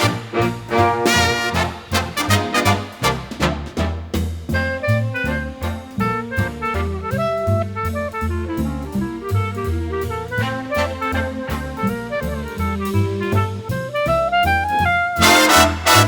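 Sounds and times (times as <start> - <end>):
saxophone melody: 0.0 - 3.0, 4.6 - 16.0
drum kit keeping time: 0.0 - 16.0
walking bass: 0.0 - 16.0.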